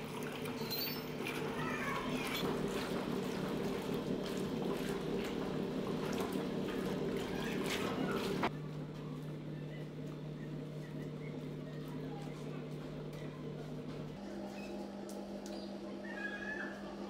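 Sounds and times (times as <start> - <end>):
washing machine agitator churning water: 0.0 - 17.0
washing machine low hum: 0.0 - 17.0.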